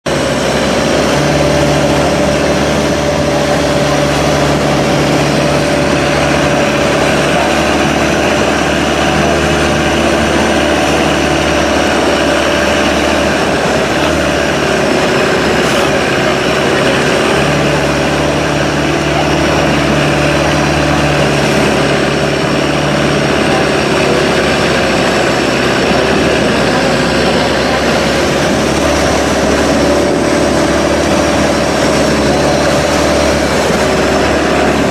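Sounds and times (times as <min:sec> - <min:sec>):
speedboat engines running: 0:00.0 - 0:34.9
rushing noise: 0:00.1 - 0:34.9.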